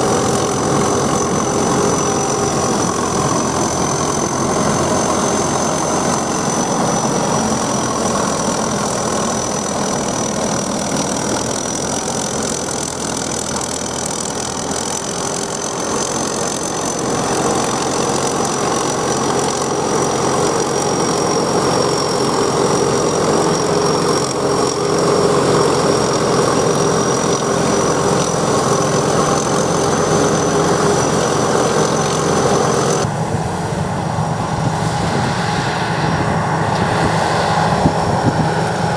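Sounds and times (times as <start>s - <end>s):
harvester engine drone: 0.0s - 38.9s
high machine whine: 0.0s - 38.9s.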